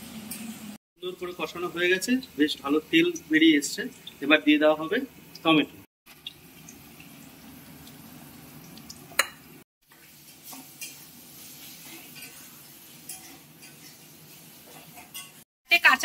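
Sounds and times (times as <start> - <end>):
spices sizzling in oil: 0.0 - 16.0.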